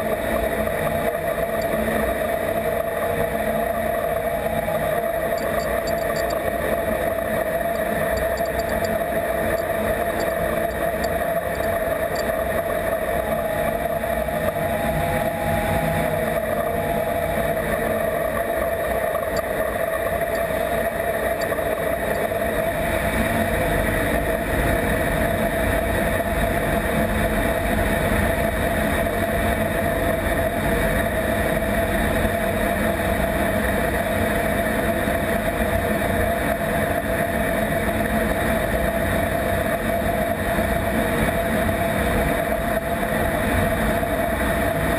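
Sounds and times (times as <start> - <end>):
jet engine steady roar: 0.0 - 44.9.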